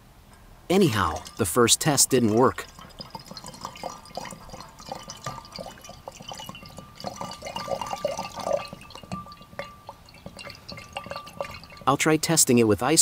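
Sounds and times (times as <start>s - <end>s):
liquid pouring into a glass beaker: 0.8s - 12.3s.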